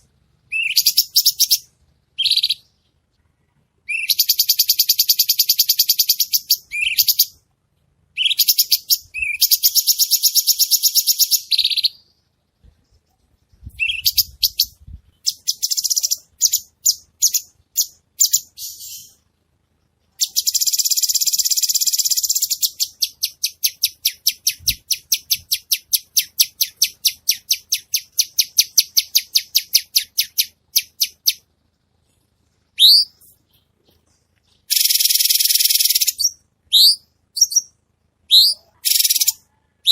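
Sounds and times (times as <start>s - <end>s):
bird singing fast trills: 0.0s - 2.8s, 3.9s - 7.4s, 8.1s - 12.2s, 13.6s - 19.2s, 20.2s - 31.4s, 32.8s - 33.6s, 34.6s - 39.9s
bird chirps: 0.0s - 7.4s, 8.1s - 19.3s, 19.9s - 31.5s, 32.7s - 39.9s.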